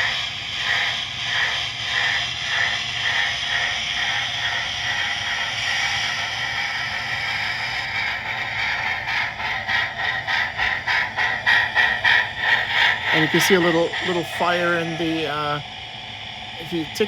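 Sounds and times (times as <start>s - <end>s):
steady hiss: 0.0s - 17.0s
steam chuffs from small speaker: 0.0s - 17.0s.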